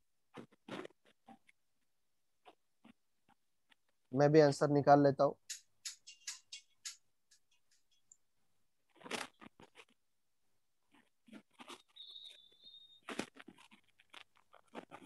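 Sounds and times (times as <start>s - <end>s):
faint clicks and crackles: 0.3s - 4.2s, 5.4s - 15.0s.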